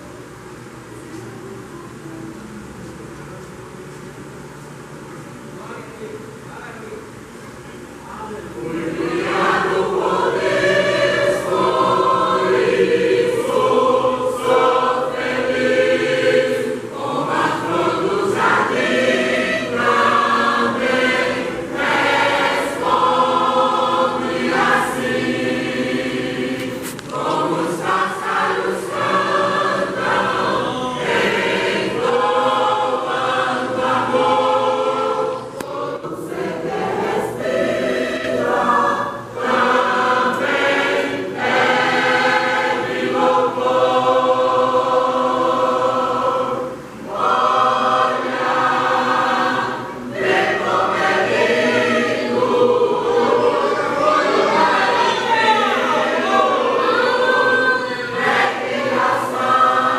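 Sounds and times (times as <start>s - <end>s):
church choir singing a hymn: 8.0s - 59.9s.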